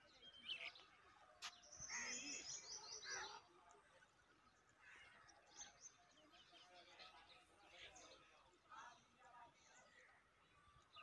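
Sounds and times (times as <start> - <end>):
faint birdsong: 0.0 - 11.0
faint rural background: 0.0 - 11.0.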